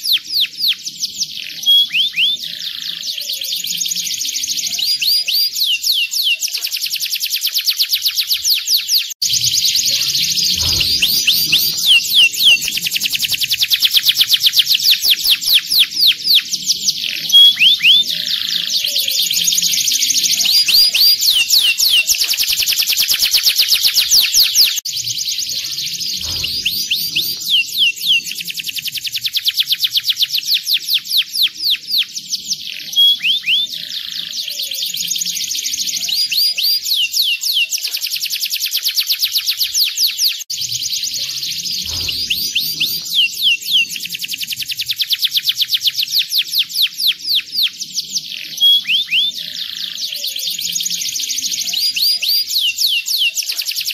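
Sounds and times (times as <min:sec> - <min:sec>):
canary singing rolling trills: 0:00.0 - 0:53.9.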